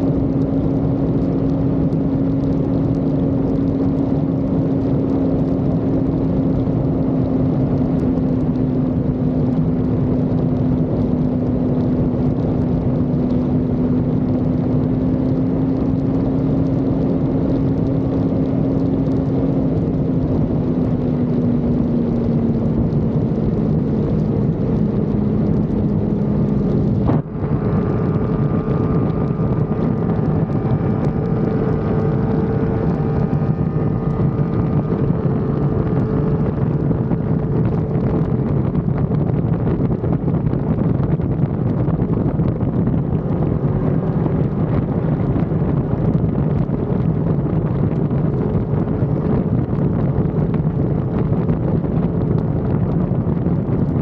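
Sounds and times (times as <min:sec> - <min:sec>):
motorcycle engine cruising: 0:00.0 - 0:54.0
wind and road rush: 0:00.0 - 0:54.0.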